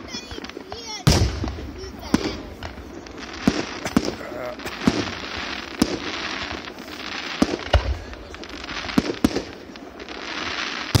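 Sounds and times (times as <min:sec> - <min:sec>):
firecracker bangs: 0:00.0 - 0:11.0
fireworks crackling: 0:00.0 - 0:11.0.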